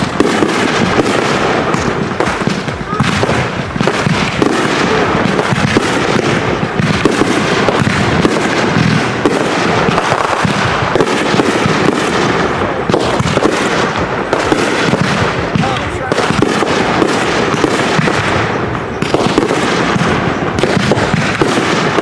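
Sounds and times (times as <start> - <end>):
fireworks popping and crackling: 0.0 - 22.0.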